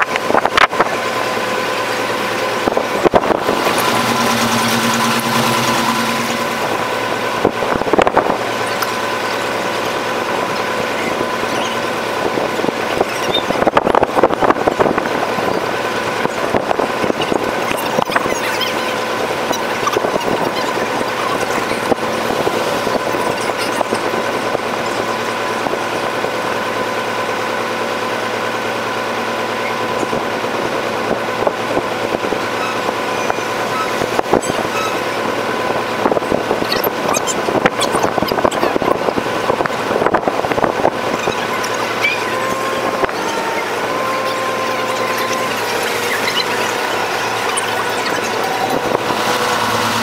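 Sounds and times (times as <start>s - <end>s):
sped-up boat engine whine: 0.0s - 50.0s.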